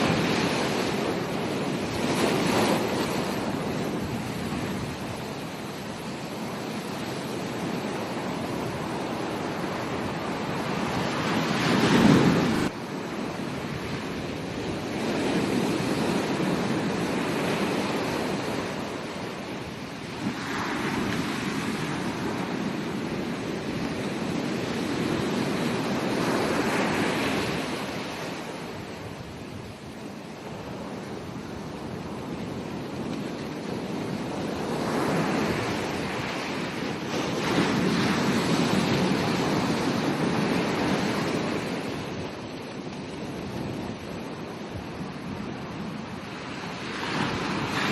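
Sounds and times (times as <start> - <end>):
ocean surf breaking on beach: 0.0 - 47.9
wind on microphone: 0.0 - 47.9.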